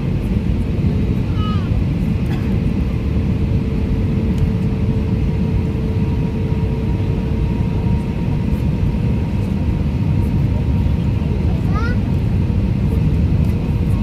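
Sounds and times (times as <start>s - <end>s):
jet engine cabin rumble: 0.0s - 14.0s.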